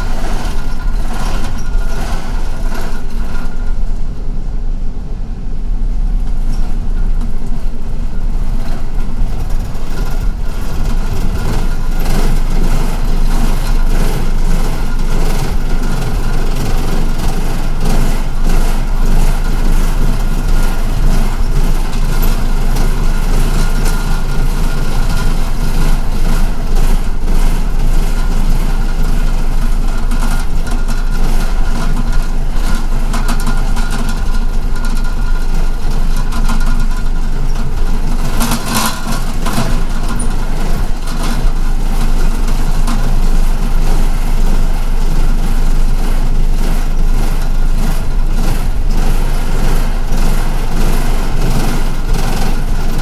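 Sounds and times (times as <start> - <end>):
bus body clicks and rattles: 0.0 - 4.6, 6.0 - 53.0
bus engine running: 0.0 - 53.0
road noise: 0.0 - 53.0.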